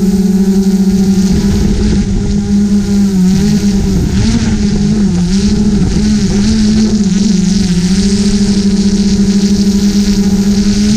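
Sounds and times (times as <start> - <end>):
drone propellers humming: 0.0 - 10.9
wind rumble on microphone: 0.0 - 10.9.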